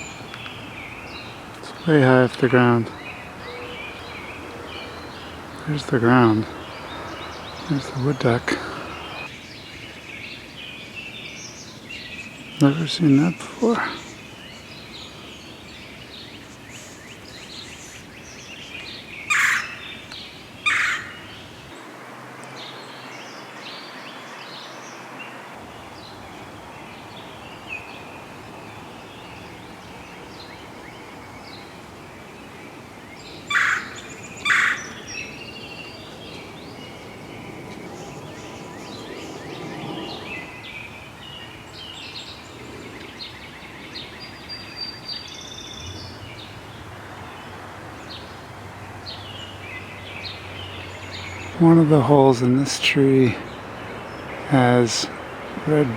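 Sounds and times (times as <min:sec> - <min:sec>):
harsh bird calls: 0:00.0 - 0:21.9, 0:22.6 - 0:55.9
small birds chirping: 0:00.0 - 0:55.9.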